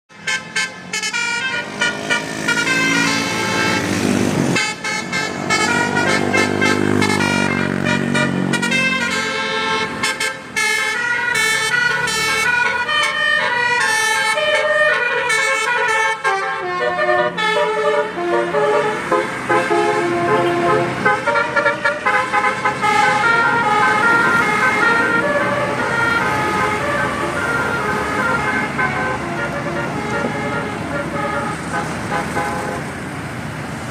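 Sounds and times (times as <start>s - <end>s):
bus multi-tone air horn tooting: 0.1s - 33.0s.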